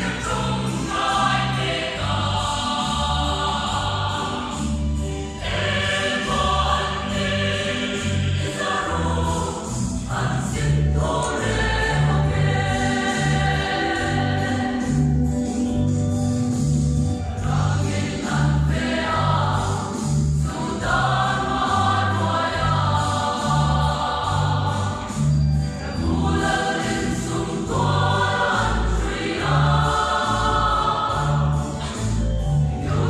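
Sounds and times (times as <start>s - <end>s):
choir singing a hymn: 0.0s - 15.4s, 17.4s - 33.0s
low bass accompaniment: 0.0s - 33.0s.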